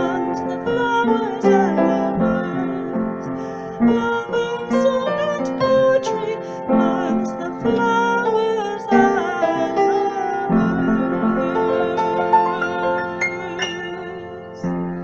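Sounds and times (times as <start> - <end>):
piano-like keyboard playing chords: 0.0 - 15.0.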